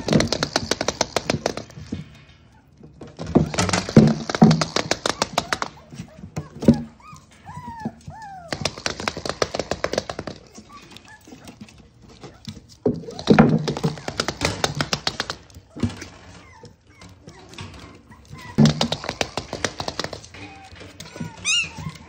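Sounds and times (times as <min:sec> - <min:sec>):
puppies clicking and tapping: 0:00.0 - 0:22.0
puppy whining: 0:00.0 - 0:22.0.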